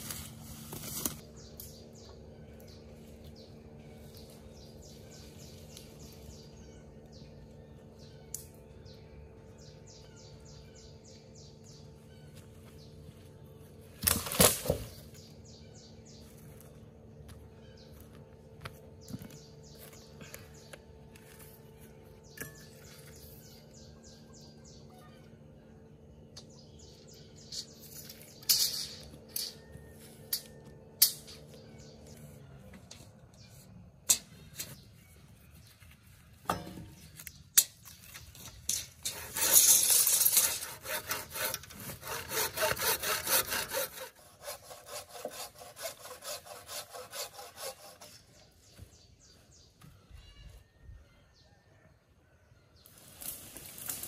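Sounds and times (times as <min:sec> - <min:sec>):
bird chirping trills: 0:01.2 - 0:13.7, 0:14.6 - 0:51.8.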